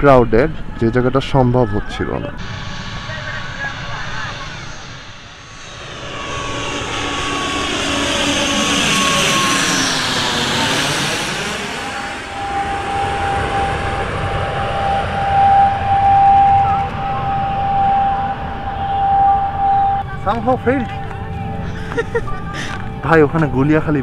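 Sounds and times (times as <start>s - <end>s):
turboprop airliner passing overhead: 2.2s - 24.0s
steady high tone: 2.3s - 24.0s.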